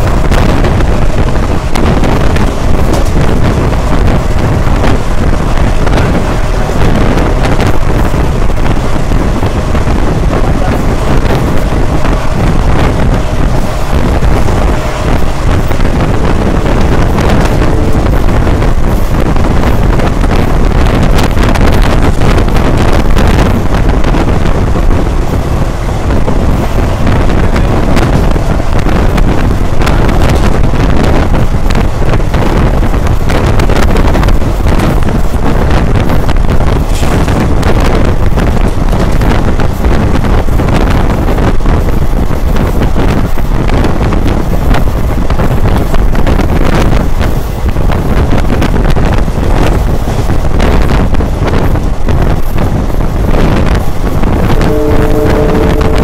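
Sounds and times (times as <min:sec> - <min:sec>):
wheels clattering on rails: 0:00.0 - 0:54.7
wind rushing on microphone: 0:00.0 - 0:56.0.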